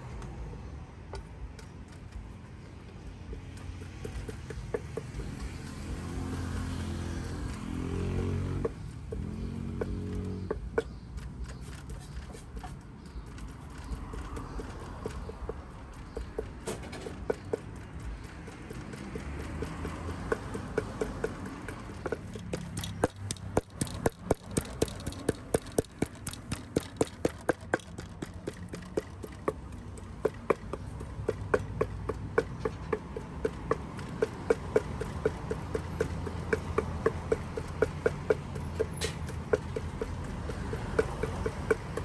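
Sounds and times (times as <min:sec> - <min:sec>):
pestle pounding in mortar: 0:02.2 - 0:42.0.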